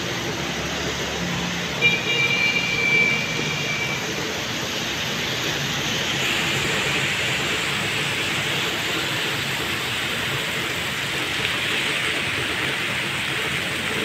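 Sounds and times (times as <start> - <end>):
heavy rain pouring: 0.0 - 14.0
traffic on wet road: 0.0 - 14.0.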